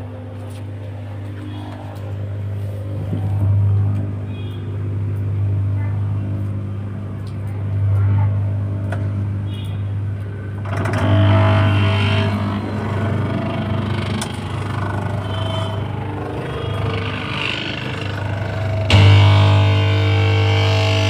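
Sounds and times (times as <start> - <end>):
washing machine motor humming: 0.0 - 21.0.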